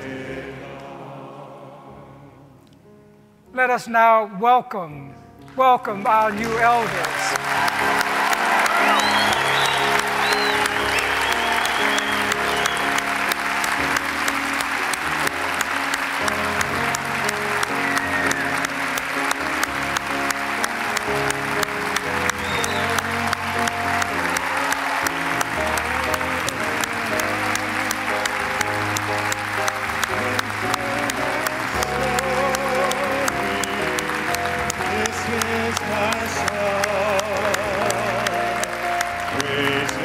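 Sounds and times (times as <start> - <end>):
congregation clapping: 5.4 - 40.0.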